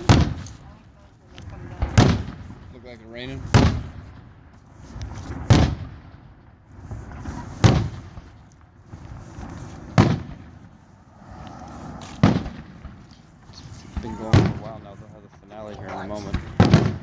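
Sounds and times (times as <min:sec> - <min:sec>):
firework shells booming: 0:00.0 - 0:17.0.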